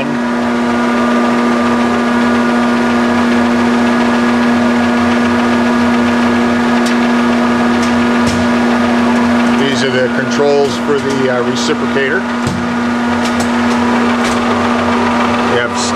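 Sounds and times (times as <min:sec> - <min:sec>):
grinder humming loudly: 0:00.0 - 0:15.9.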